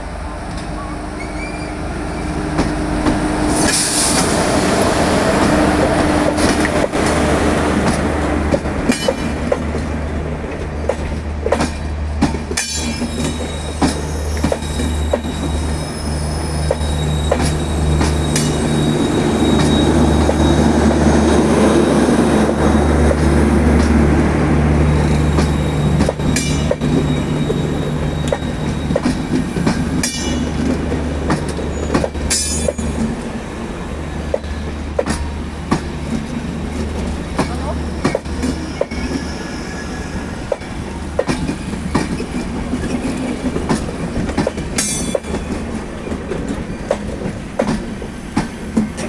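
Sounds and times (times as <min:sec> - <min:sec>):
rolling rail noise: 0:00.0 - 0:49.0.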